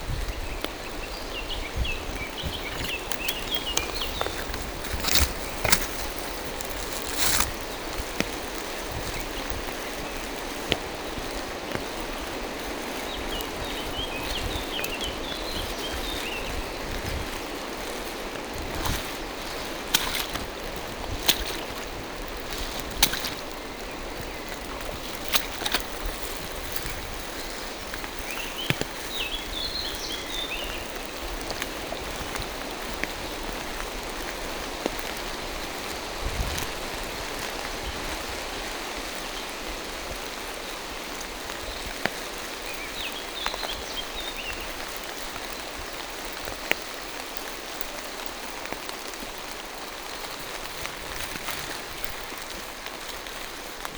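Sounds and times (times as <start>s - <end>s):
rain falling through trees: 0.0s - 53.9s
sharp taps of raindrops: 0.0s - 53.9s.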